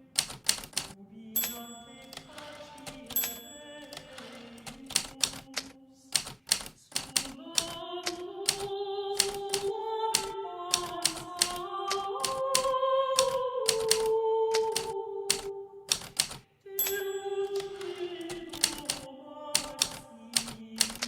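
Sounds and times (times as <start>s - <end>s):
typewriter keys striking: 0.0s - 21.0s.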